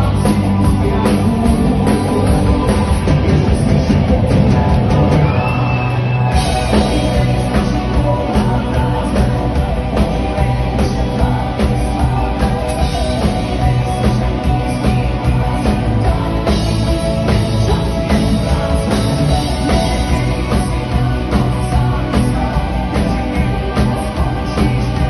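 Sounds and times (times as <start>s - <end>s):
drum kit beat: 0.0s - 25.0s
electric guitar: 0.0s - 25.0s.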